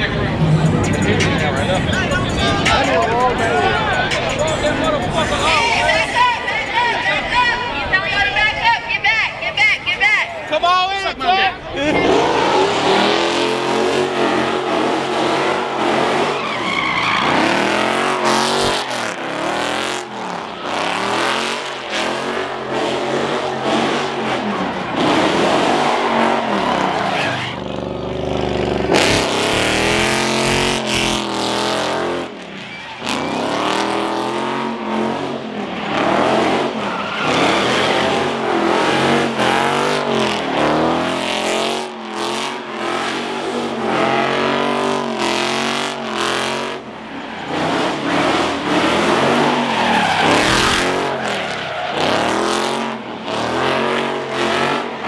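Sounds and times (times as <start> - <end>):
car engines revving: 0.0 - 55.0
tires squealing on pavement: 0.0 - 55.0.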